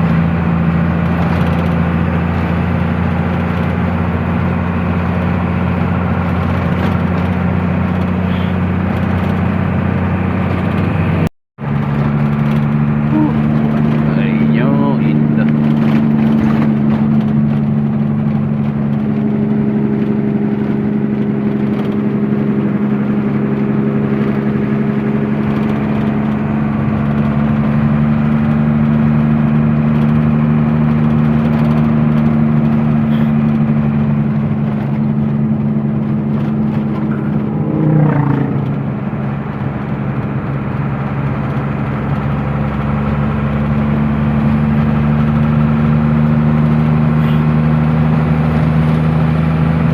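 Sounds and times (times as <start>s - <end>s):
truck engine droning: 0.0s - 49.9s.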